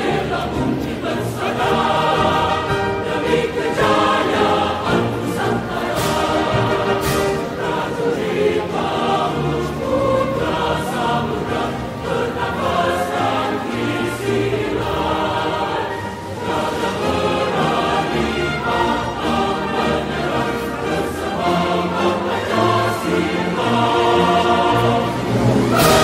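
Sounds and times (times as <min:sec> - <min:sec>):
choir singing with instruments: 0:00.0 - 0:26.0.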